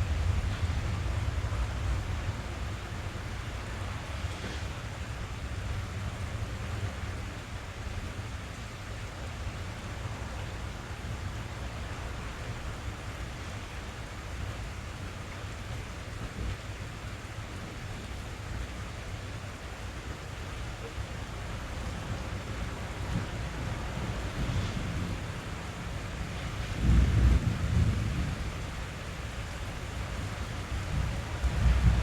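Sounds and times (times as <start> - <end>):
rain on car roof: 0.0 - 32.0.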